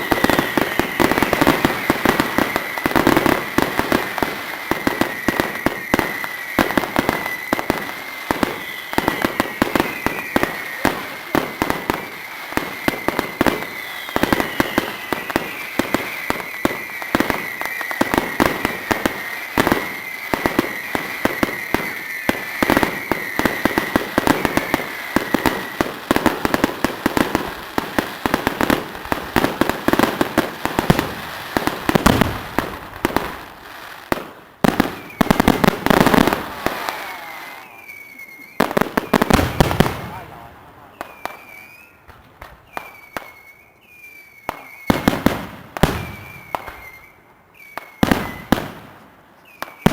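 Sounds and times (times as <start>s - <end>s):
high firework whistle: 0.0s - 33.5s, 34.6s - 49.9s
fireworks bangs and crackles: 0.0s - 49.9s.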